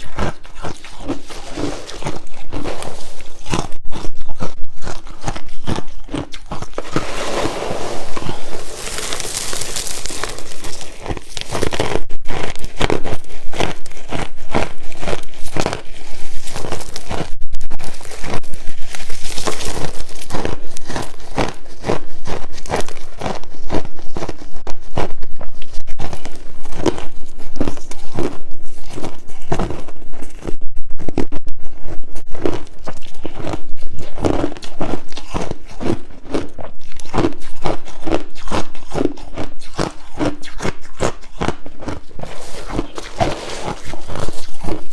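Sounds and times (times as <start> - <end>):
crushed ice being chewed: 0.0 - 44.9.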